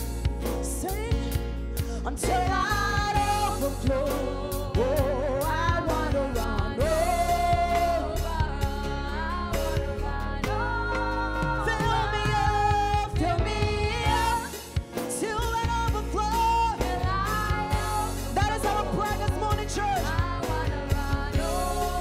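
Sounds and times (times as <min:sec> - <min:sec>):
worship song with band: 0:00.0 - 0:22.0.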